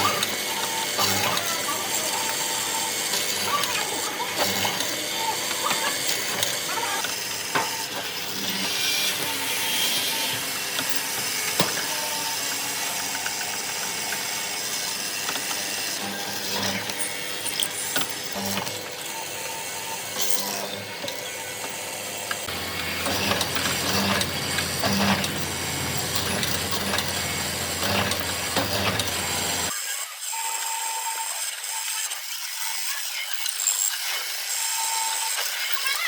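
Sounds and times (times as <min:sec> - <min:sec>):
woodworking tool hissing: 0:00.0 - 0:29.8.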